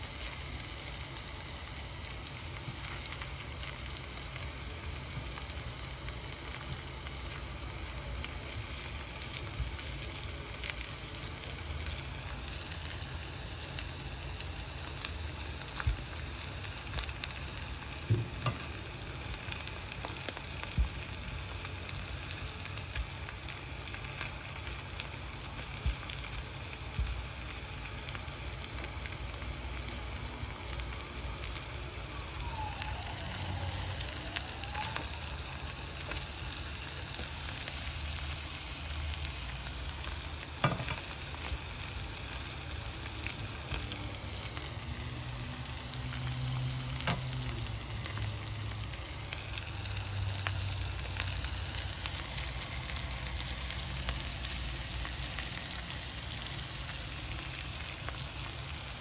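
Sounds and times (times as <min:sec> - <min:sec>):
prawns sizzling in a pan: 0:00.0 - 0:59.0.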